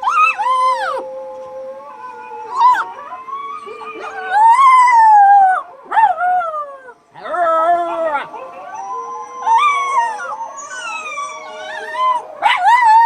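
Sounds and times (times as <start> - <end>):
dogs howling: 0.0 - 13.0.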